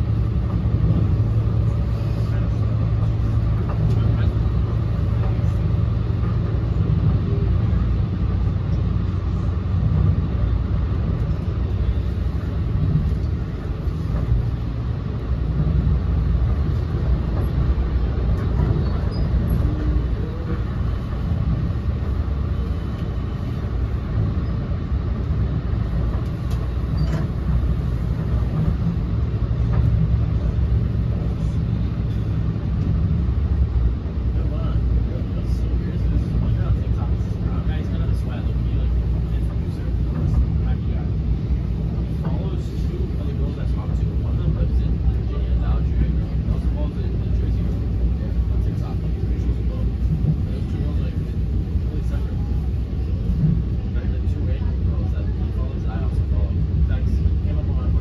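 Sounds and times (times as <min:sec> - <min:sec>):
train coach low rumble: 0:00.0 - 0:58.0.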